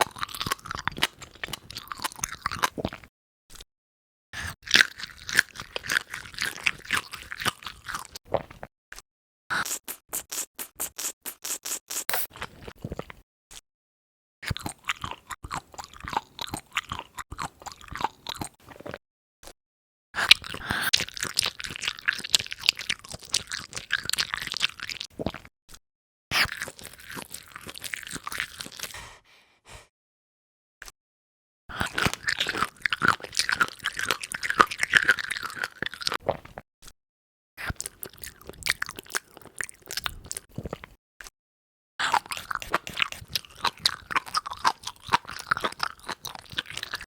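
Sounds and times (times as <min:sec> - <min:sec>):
crunching and chewing seafood: 0:00.0 - 0:03.7, 0:04.4 - 0:13.2, 0:14.4 - 0:19.6, 0:20.2 - 0:25.5, 0:26.3 - 0:29.2, 0:31.7 - 0:37.0, 0:37.6 - 0:41.0, 0:42.0 - 0:47.0.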